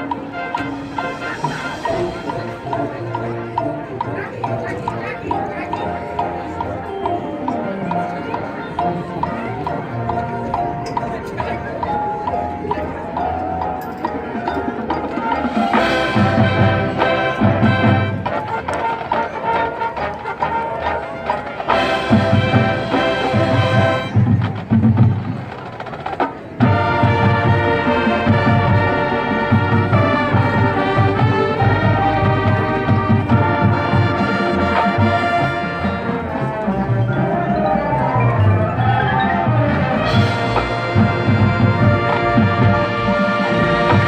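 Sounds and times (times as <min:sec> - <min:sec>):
marching band playing: 0:00.0 - 0:44.0.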